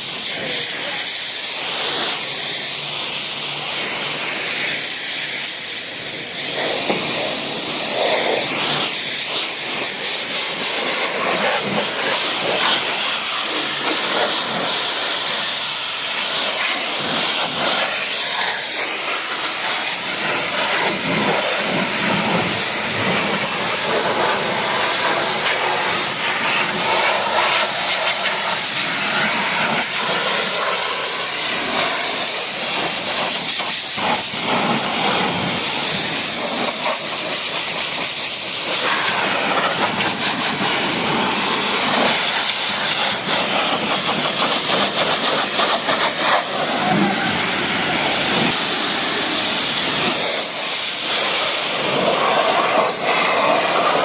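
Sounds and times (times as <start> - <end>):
pressure washer spraying water: 0.0 - 54.0.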